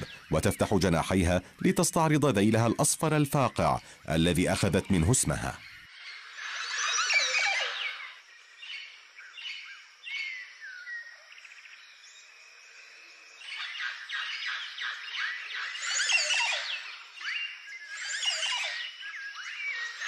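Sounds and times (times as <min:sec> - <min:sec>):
birds whistling calls: 0:00.0 - 0:11.5, 0:13.4 - 0:20.0.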